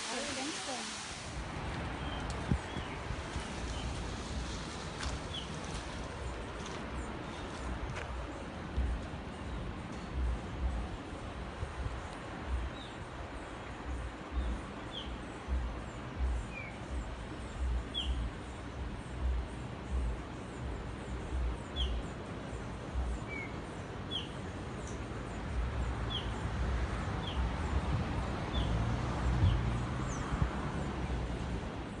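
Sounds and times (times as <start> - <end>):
wind rumbling on microphone: 0.0 - 21.9, 25.4 - 32.0
constant rushing hiss: 0.0 - 32.0.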